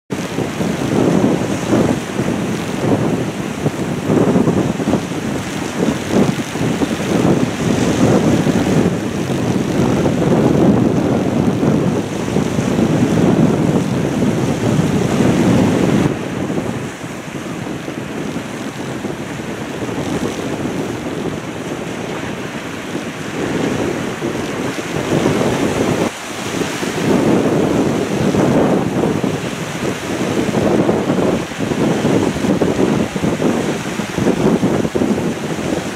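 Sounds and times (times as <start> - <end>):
choppy sea washing: 0.1 - 35.9
wind buffeting microphone: 0.1 - 35.9
low rumbling noise: 0.4 - 35.2.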